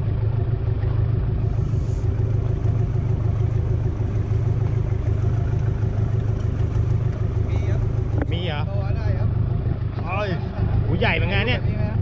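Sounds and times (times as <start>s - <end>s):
boat engine rumbling: 0.0s - 12.0s
constant hum: 0.0s - 12.0s.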